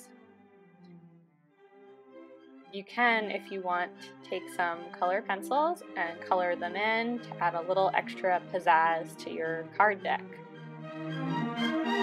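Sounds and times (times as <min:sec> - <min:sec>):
faint instrumental music: 0:00.0 - 0:12.0.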